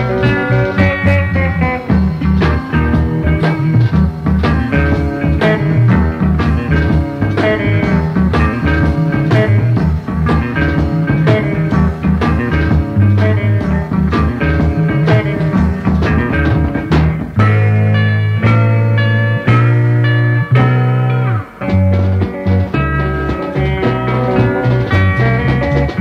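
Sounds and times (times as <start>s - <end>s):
bass line: 0.0s - 26.0s
blues-rock guitar jam: 0.0s - 26.0s
steady drum beat: 0.0s - 26.0s.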